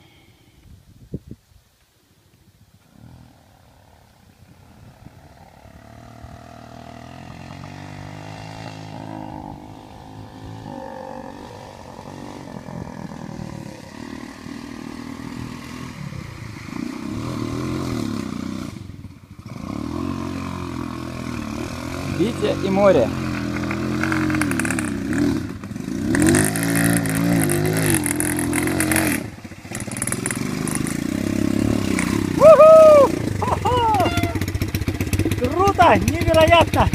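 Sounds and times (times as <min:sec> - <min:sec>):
motor engine revving: 0:02.9 - 0:36.9.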